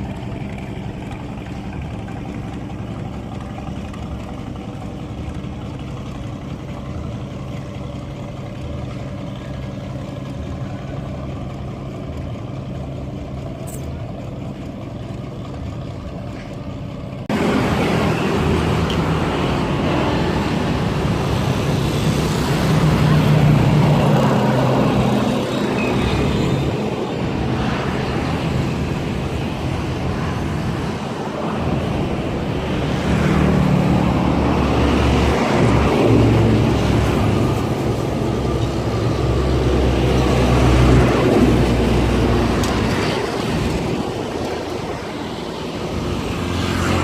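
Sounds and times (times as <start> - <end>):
engine drone: 0.0 - 47.0.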